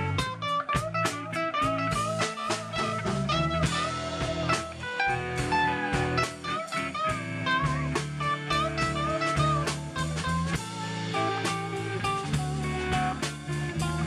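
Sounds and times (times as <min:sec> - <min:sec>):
bass line: 0:00.0 - 0:14.0
drum kit: 0:00.0 - 0:14.0
electric guitar lead: 0:00.0 - 0:14.0.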